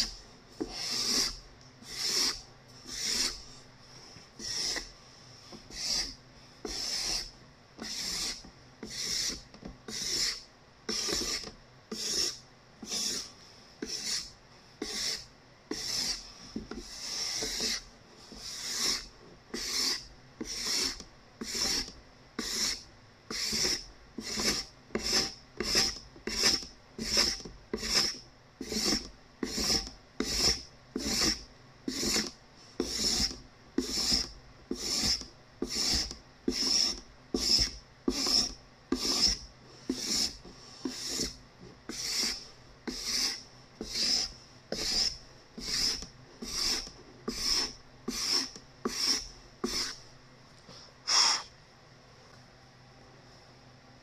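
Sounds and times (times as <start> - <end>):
card scraper rasping on wood: 0.0 - 3.4, 4.4 - 4.9, 5.7 - 50.0.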